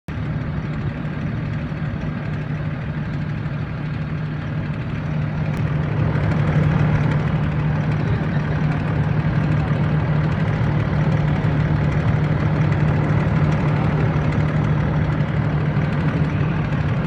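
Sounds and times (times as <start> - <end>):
car engine idling hum: 0.1 - 17.0.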